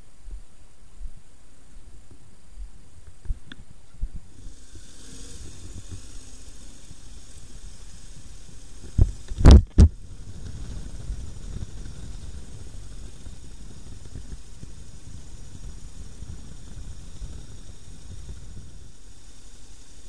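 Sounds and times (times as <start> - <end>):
wind and road rumble: 2.0 - 20.0.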